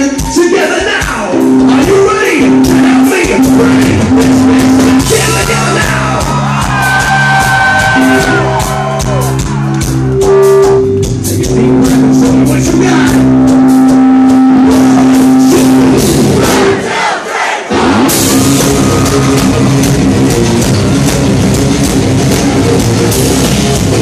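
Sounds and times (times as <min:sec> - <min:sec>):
bass guitar: 0:00.0 - 0:16.7, 0:17.7 - 0:24.0
steady drum beat: 0:00.0 - 0:24.0
electric guitars: 0:01.3 - 0:16.4, 0:17.7 - 0:24.0.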